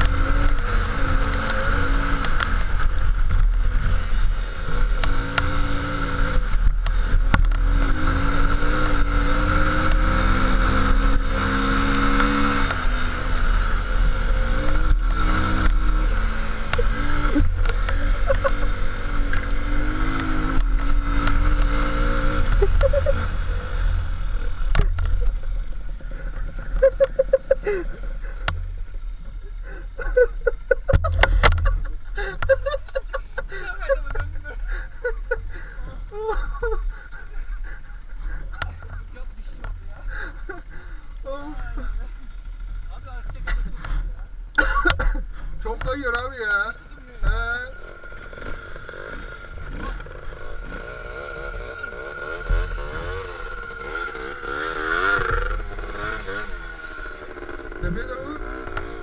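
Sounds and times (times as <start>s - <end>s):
vehicle engine revving under load: 0.0s - 59.0s.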